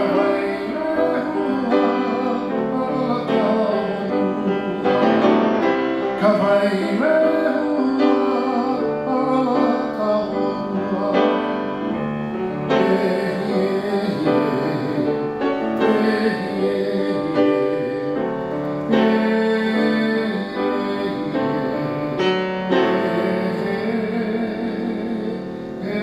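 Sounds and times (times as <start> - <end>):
man singing: 0.0 - 26.0
piano chords: 0.0 - 26.0.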